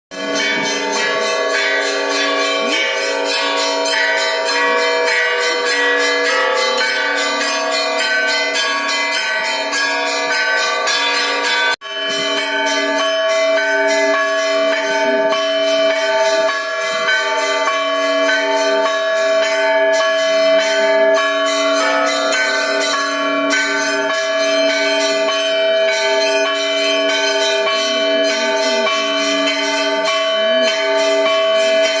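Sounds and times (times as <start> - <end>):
bells ringing in a peal: 0.1 - 32.0.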